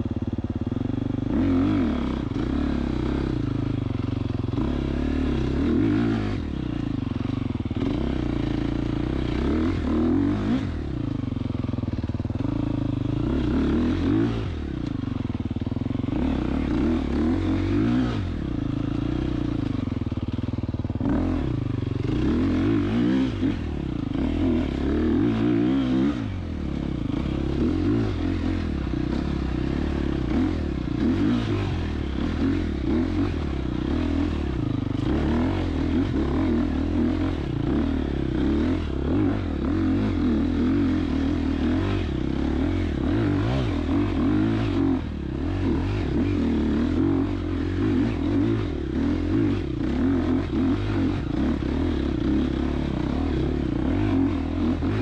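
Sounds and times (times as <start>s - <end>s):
dirt bike engine revving: 1.2s - 3.5s, 4.1s - 14.9s, 15.6s - 20.3s, 20.9s - 55.0s.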